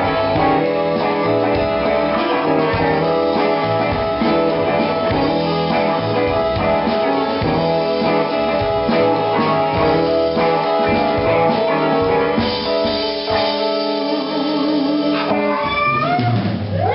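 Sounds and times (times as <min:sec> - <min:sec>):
drum kit beat: 0:00.0 - 0:16.9
electric guitar: 0:00.0 - 0:16.9.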